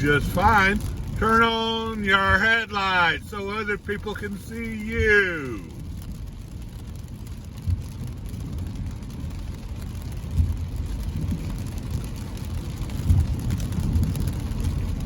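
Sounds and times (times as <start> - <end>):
car driving on wet road: 0.0 - 15.0.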